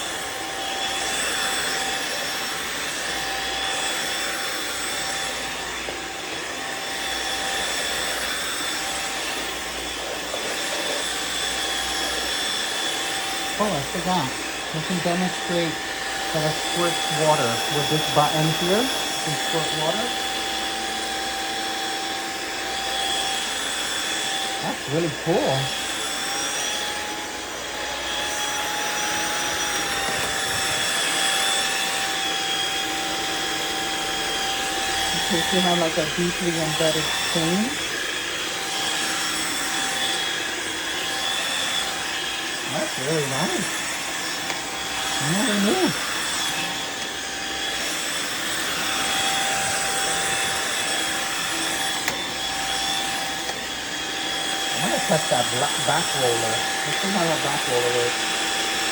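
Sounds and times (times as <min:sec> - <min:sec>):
floor washer motor whine: 0:00.0 - 0:58.9.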